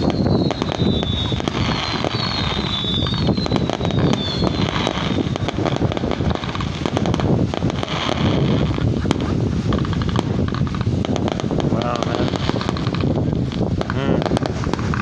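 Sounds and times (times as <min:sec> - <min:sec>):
fireworks crackling and popping: 0:00.0 - 0:15.0
fireworks whistling: 0:00.0 - 0:15.0
wind on microphone: 0:00.0 - 0:15.0.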